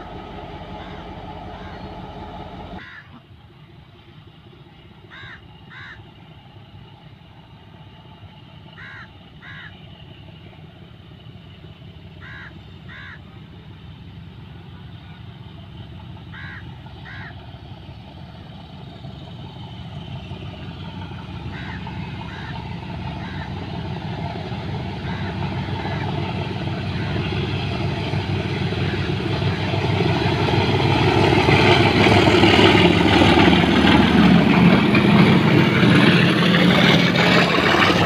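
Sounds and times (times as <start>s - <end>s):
diesel locomotive engine rumbling: 0.0s - 38.0s.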